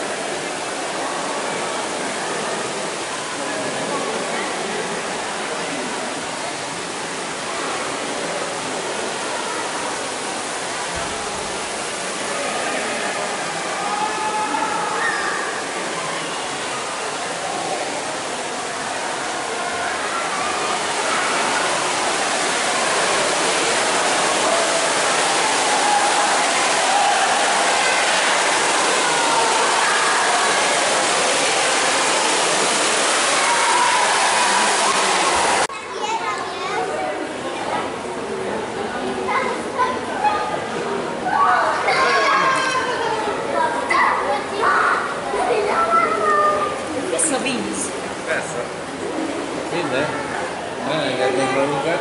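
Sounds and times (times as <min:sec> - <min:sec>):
water rushing from jets: 0:00.0 - 0:52.0.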